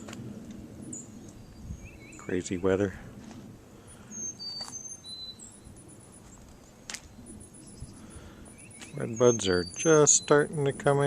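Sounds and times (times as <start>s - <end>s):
low steady background hiss: 0.0s - 11.0s
small birds chirping: 0.7s - 2.9s, 3.7s - 11.0s.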